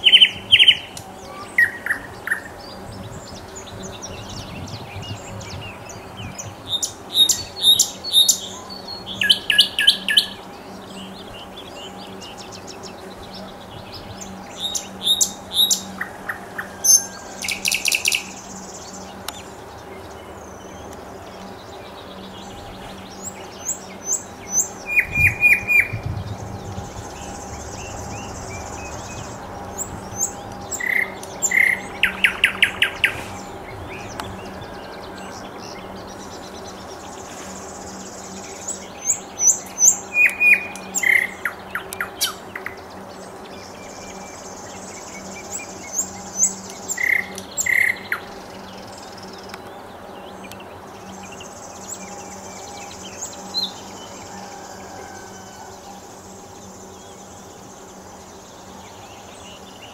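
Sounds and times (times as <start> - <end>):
faint steady hum: 0.0 - 59.9
high chirps of small birds: 0.0 - 59.9
nightingale singing: 0.0 - 59.9.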